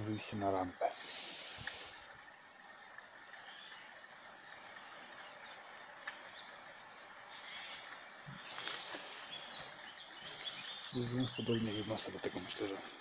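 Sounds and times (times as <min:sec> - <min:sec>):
faint chirps: 0:00.0 - 0:12.8
steady high hiss: 0:00.0 - 0:13.0.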